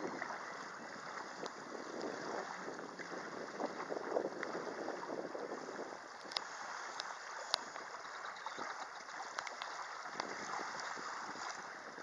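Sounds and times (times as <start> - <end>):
waves lapping on sandy shore: 0.0 - 12.0.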